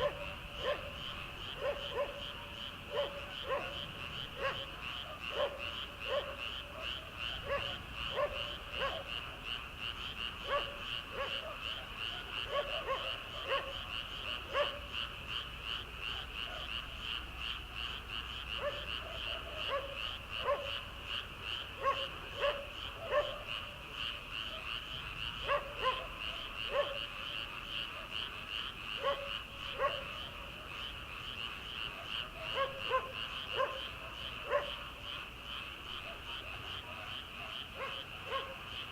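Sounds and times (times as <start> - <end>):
frogs chorus pulsing: 0.0 - 38.9
low frog croaks: 0.0 - 38.9.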